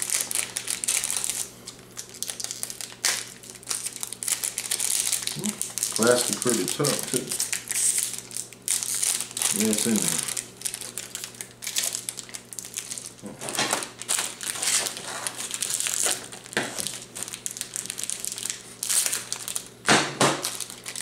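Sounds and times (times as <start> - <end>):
stiff plastic crackling: 0.0 - 21.0.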